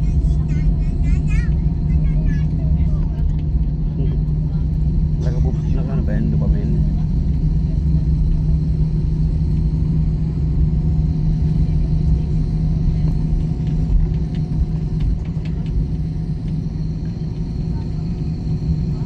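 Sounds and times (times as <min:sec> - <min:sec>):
airplane engines rumbling: 0:00.0 - 0:19.0.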